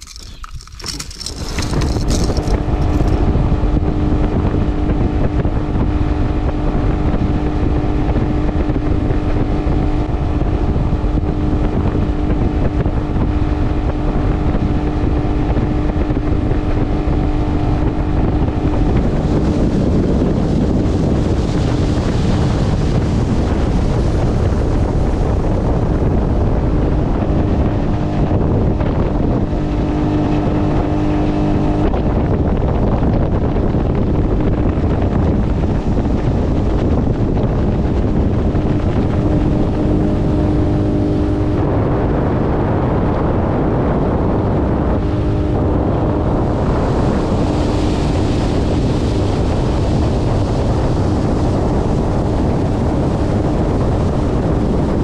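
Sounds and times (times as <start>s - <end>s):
outboard motor running: 0.0s - 55.0s
wind buffeting microphone: 0.0s - 55.0s.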